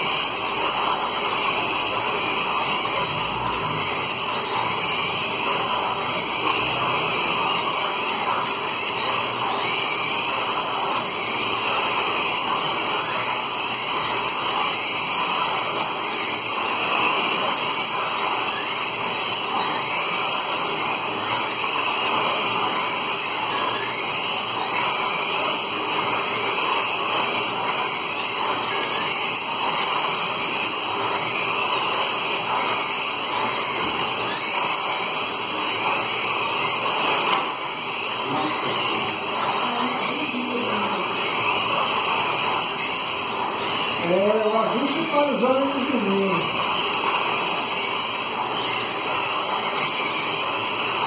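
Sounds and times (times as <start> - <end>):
slot car motors whining: 0.0 - 51.0.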